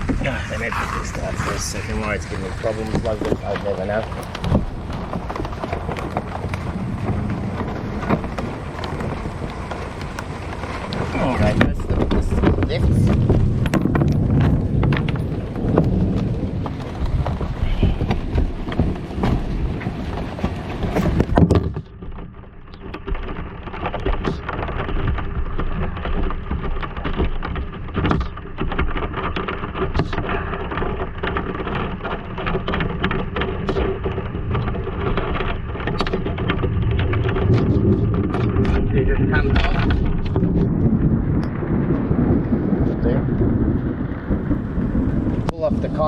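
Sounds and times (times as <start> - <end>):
heavy low rumble: 0.0 - 22.7, 29.5 - 46.0
light rain pattering: 0.0 - 46.0.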